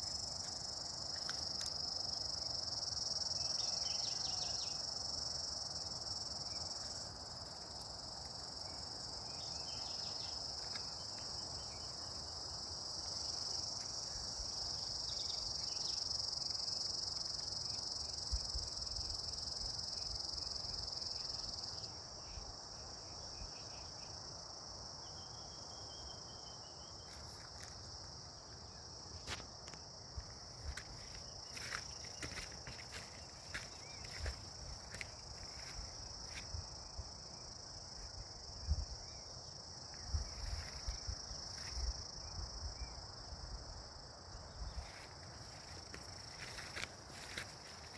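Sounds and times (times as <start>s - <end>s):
insects chirring: 0.0s - 47.9s.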